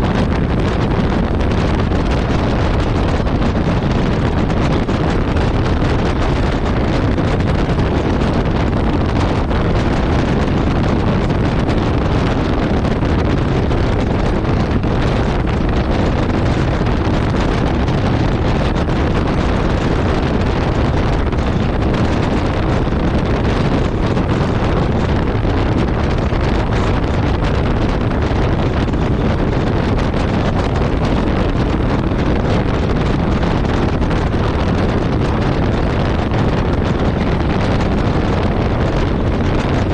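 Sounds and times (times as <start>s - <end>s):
road noise: 0.0s - 39.9s
wind rush on microphone: 0.0s - 39.9s.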